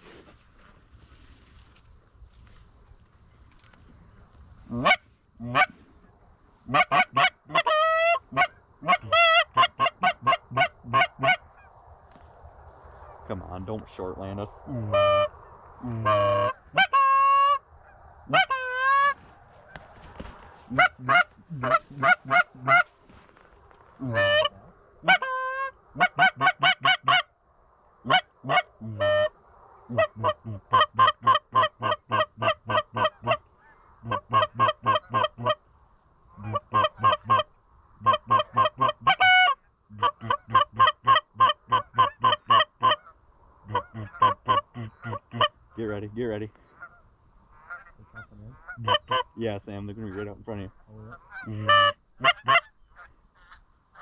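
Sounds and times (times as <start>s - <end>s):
goose honking and clucking: 4.6s - 11.7s, 14.7s - 23.2s, 23.9s - 27.3s, 28.0s - 35.6s, 36.3s - 46.0s, 46.6s - 54.0s.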